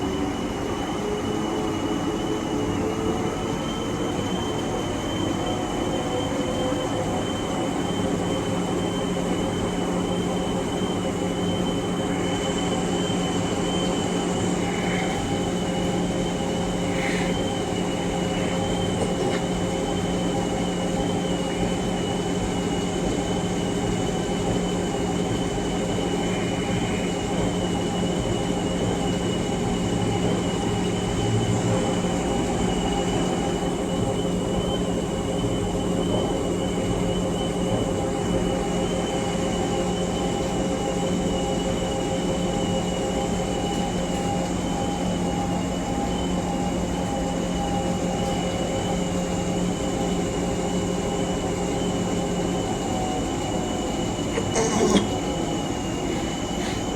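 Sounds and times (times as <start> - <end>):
washing machine hum: 9.8 - 56.9.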